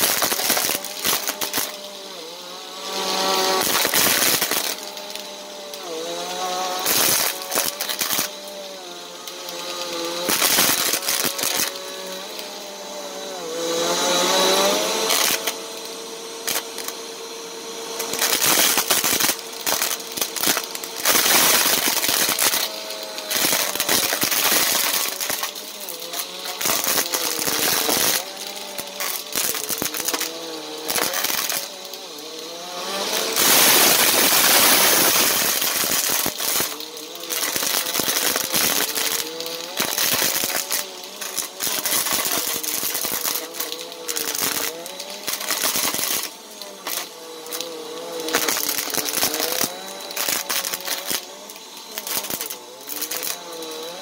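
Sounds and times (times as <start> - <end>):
plastic beads rattling through nozzle: 0.0 - 17.0, 17.9 - 54.0
vacuum cleaner motor whining: 0.0 - 54.0.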